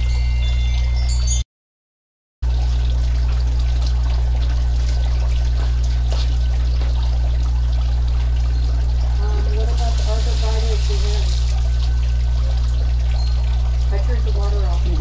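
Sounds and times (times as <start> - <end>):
water trickling into fountain basin: 0.0 - 1.4, 2.4 - 15.0
steady low hum: 2.5 - 15.0.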